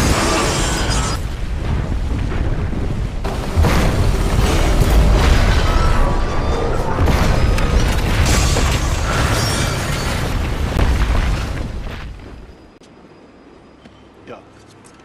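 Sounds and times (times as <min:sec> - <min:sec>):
booming impacts: 0:00.0 - 0:12.4.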